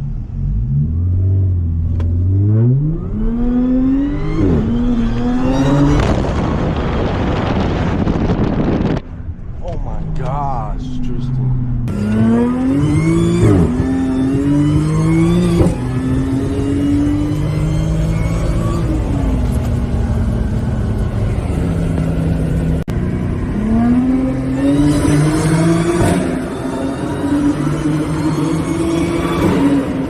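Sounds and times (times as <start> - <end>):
car engine accelerating through gears: 0.0 - 9.0, 11.0 - 30.0.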